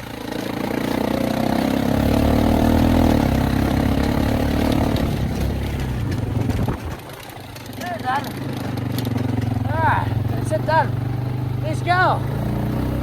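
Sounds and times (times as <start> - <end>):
farm vehicle engine running: 0.0 - 13.0.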